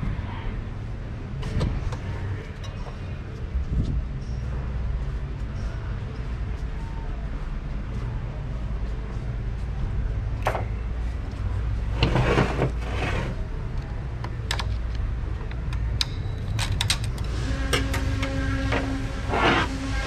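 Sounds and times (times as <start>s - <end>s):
low shop hum: 0.0s - 20.0s.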